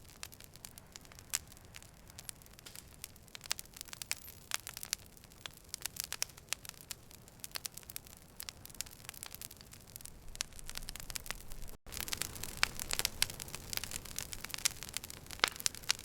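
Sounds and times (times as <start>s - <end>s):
campfire crackling and popping: 0.0s - 16.0s
fire low hiss: 0.0s - 16.0s.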